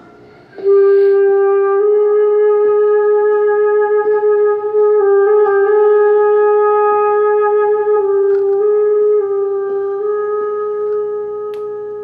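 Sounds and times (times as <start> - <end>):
flute slow melody: 0.0 - 12.0.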